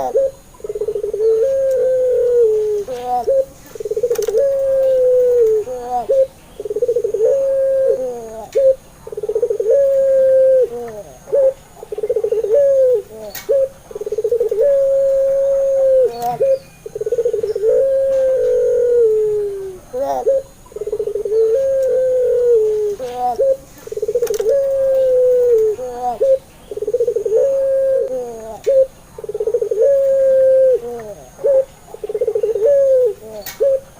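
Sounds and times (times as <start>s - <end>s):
dove cooing: 0.0s - 33.9s.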